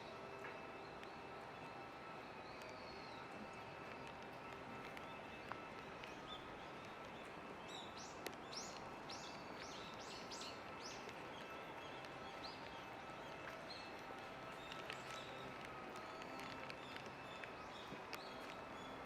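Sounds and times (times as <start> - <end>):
faint ticks: 0.0 - 19.0
songbird chirping: 0.0 - 19.0
rain hiss: 1.3 - 19.0.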